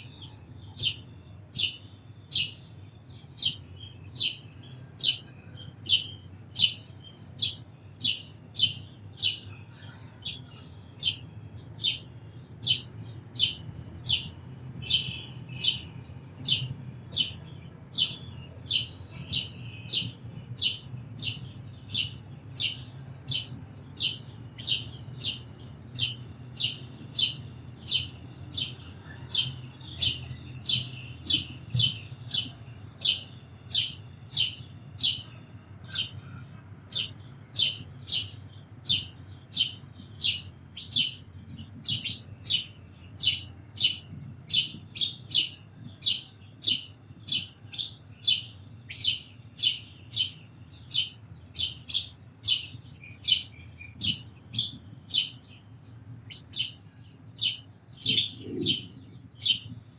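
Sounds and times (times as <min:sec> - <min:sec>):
sparrow chirping: 0:00.0 - 0:59.9
steady low hum: 0:00.0 - 0:59.9.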